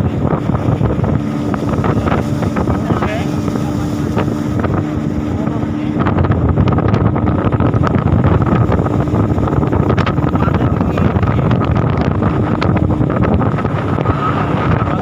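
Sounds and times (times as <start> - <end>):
motorboat engine running: 0.0 - 15.0
wind buffeting microphone: 0.0 - 15.0.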